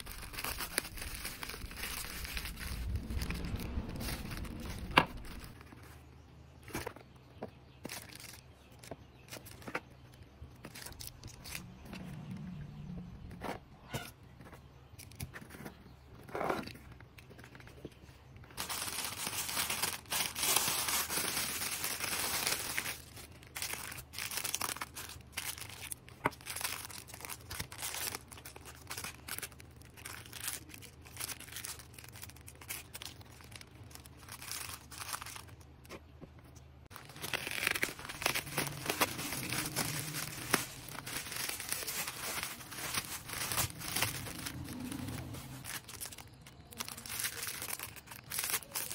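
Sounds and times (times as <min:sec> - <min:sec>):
plastic packaging crinkling: 0:00.0 - 0:06.0, 0:07.8 - 0:11.9, 0:16.6 - 0:48.9.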